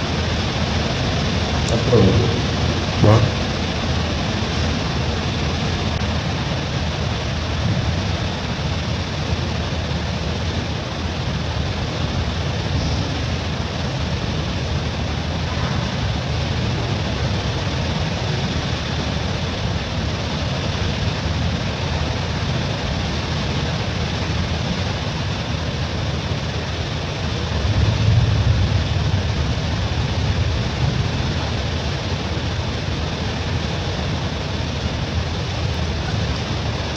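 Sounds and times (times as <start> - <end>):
steady rushing noise: 0.0 - 36.9.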